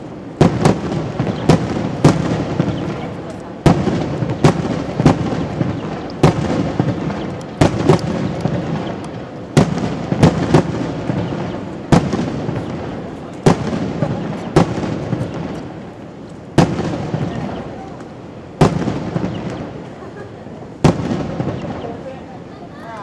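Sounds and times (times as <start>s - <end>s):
fireworks bursting: 0.0s - 22.9s.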